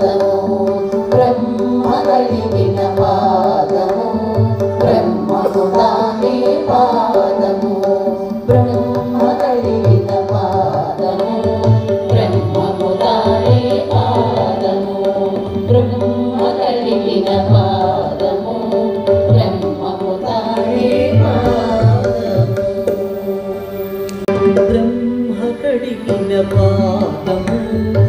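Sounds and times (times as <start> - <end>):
tabla strokes: 0.0 - 28.0.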